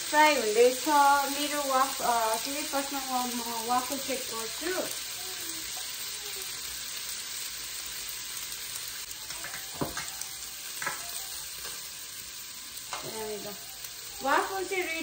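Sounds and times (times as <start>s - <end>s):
sausages sizzling in a frying pan: 0.0s - 15.0s.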